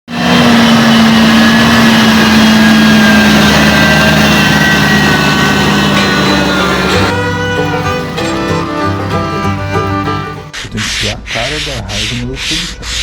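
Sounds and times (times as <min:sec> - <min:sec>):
tractor diesel engine running: 0:00.1 - 0:10.6.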